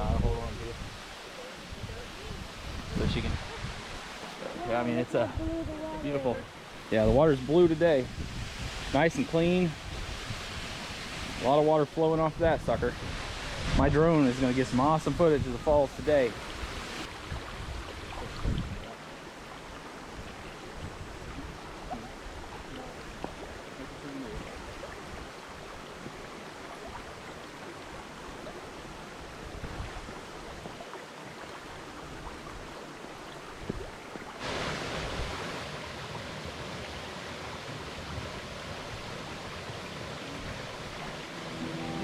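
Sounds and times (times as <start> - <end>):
waterfall rushing: 0.0 - 29.5, 34.4 - 42.0.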